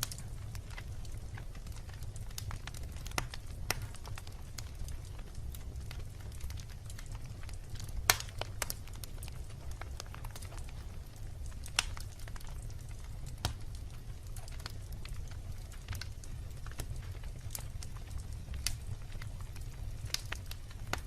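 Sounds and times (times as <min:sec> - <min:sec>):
campfire crackling and popping: 0:00.0 - 0:21.0
low fire rumble: 0:00.0 - 0:21.0.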